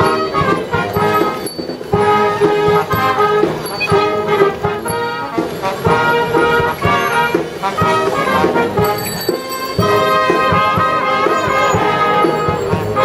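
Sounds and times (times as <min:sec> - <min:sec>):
melody over a beat: 0:00.0 - 0:13.0.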